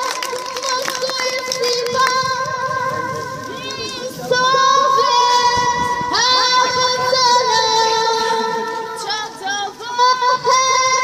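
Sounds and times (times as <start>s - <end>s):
girl singing into a microphone: 0.0s - 11.0s.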